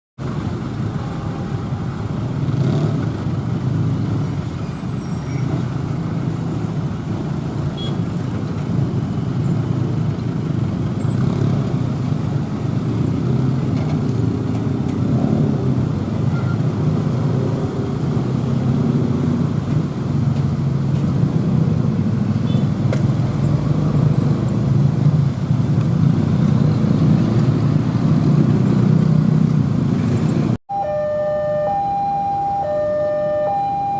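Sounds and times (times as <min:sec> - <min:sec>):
road traffic rumbling past: 0:00.2 - 0:33.9.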